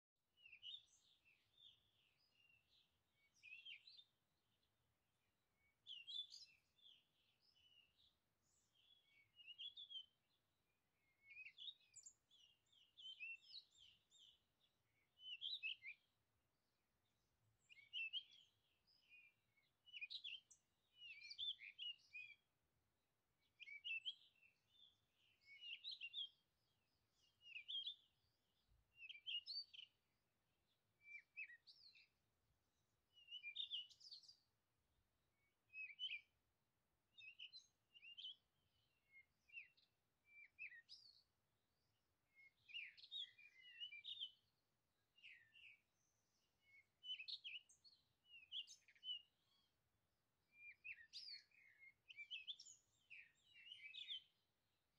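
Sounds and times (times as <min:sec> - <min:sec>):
faint birdsong chirping: 0:00.0 - 0:54.9.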